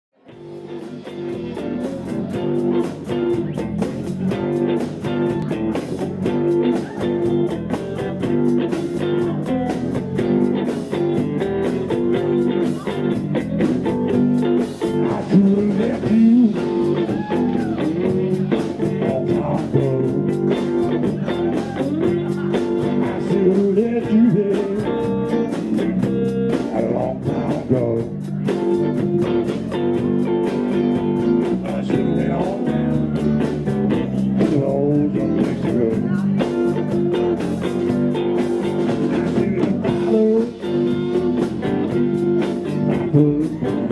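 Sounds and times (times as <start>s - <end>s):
blues band playing: 0.2s - 43.9s
sliding electric guitar notes: 0.3s - 43.9s.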